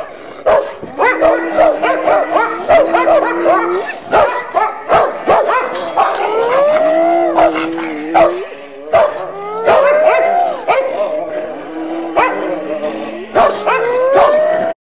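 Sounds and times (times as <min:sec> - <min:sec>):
animal howling: 0:00.9 - 0:04.0, 0:05.7 - 0:14.8.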